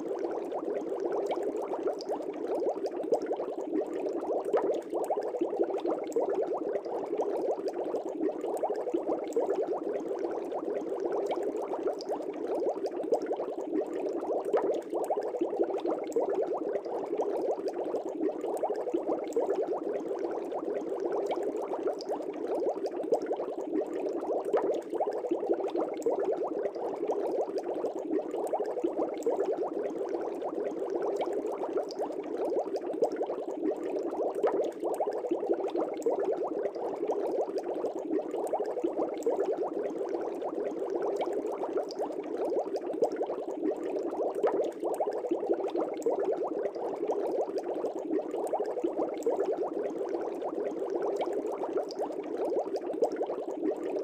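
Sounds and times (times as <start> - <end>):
air bubbles in aquarium water: 0.0 - 54.0.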